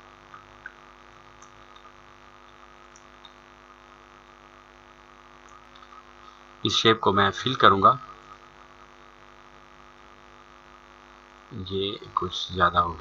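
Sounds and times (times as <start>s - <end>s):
mains hum: 0.0s - 13.0s.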